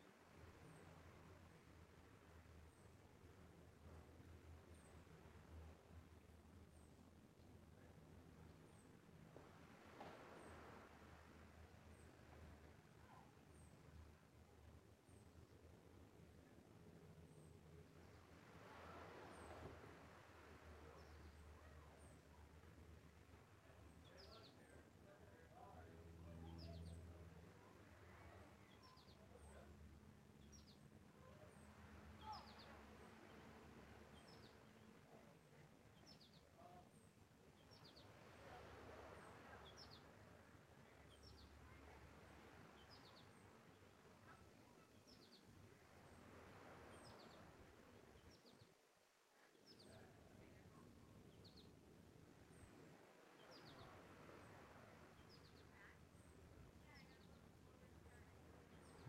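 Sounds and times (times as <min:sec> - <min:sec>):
faint low hum: 0:00.0 - 0:59.0.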